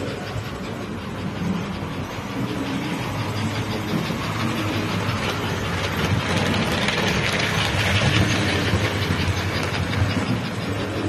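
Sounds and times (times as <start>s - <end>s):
model train motor hum: 0.0s - 11.0s
wheels rattling over track: 0.0s - 11.0s.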